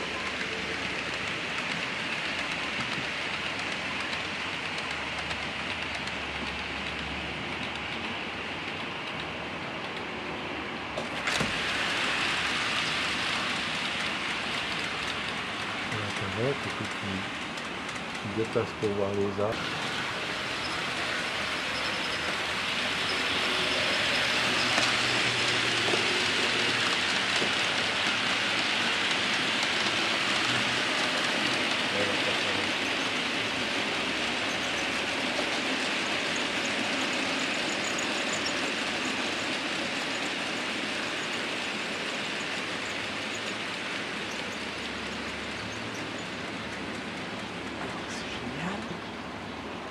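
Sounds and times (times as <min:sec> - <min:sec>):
model train rumbling on track: 0:00.0 - 0:49.9.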